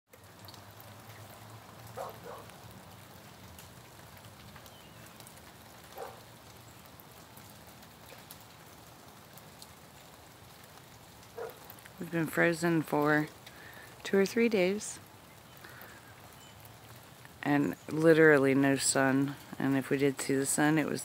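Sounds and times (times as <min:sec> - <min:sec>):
meltwater dripping from branches: 0:00.1 - 0:21.0.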